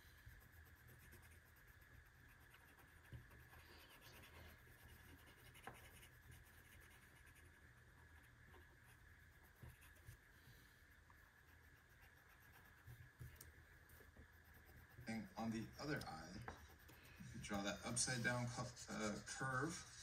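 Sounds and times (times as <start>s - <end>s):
marker scratching on paper: 0.0s - 10.3s, 11.3s - 20.0s.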